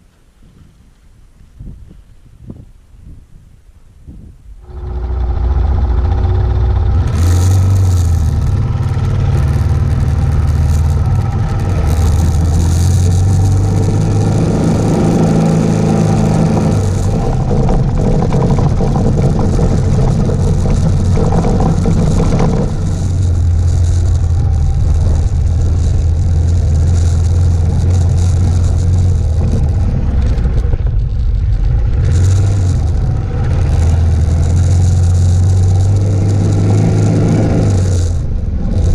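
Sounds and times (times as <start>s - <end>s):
wind rushing over camera: 0.0s - 38.9s
motorcycle engine revving: 4.6s - 38.9s
motorcycle rattling: 4.6s - 38.9s.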